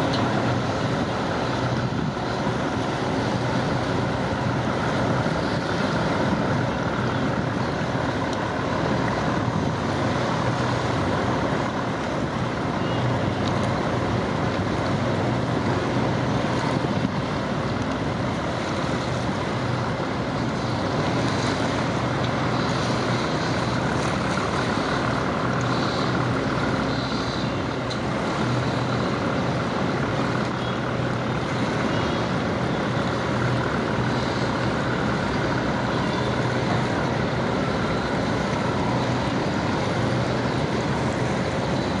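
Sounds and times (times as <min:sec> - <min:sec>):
ferry engines droning: 0:00.0 - 0:42.0
water rushing: 0:00.0 - 0:42.0.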